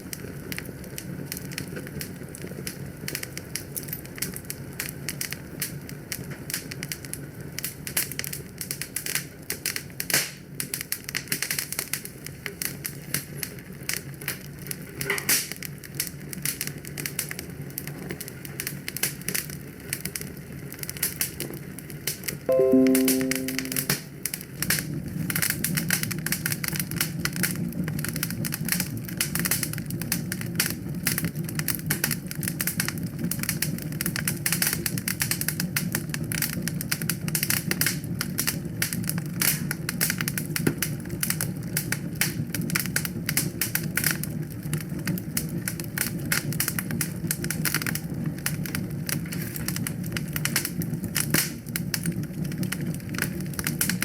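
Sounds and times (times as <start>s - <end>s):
wood fire crackling: 0.0s - 23.5s, 25.9s - 54.0s.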